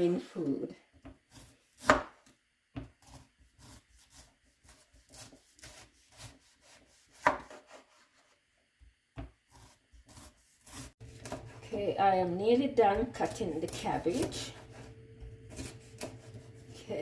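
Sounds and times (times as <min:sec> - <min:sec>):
knife slicing cabbage: 0:01.1 - 0:08.4, 0:09.2 - 0:11.8, 0:12.9 - 0:17.0.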